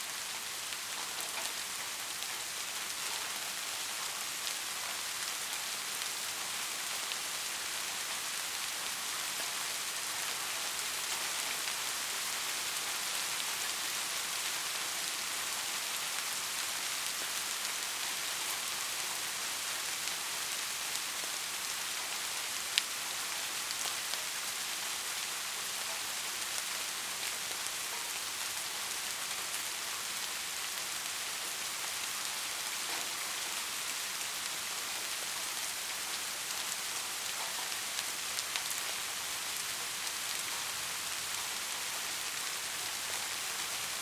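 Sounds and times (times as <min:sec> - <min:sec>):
rain falling: 0:00.0 - 0:44.0.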